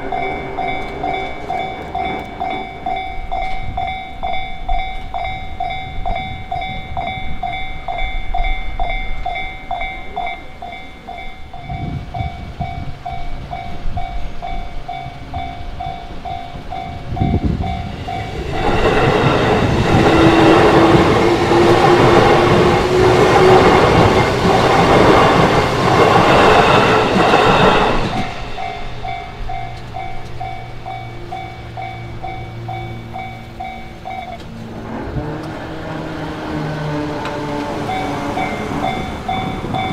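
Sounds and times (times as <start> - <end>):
level crossing warning bell: 0.0 - 34.7, 37.6 - 39.9
train wheels clacking: 0.0 - 39.9
train whine: 0.0 - 39.9.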